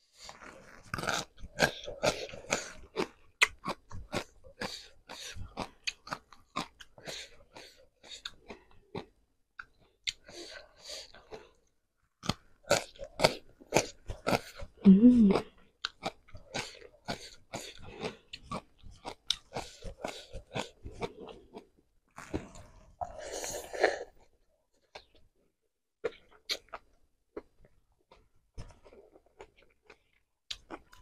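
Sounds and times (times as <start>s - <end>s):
person chewing crunchy food: 0.1s - 25.2s, 26.0s - 31.0s.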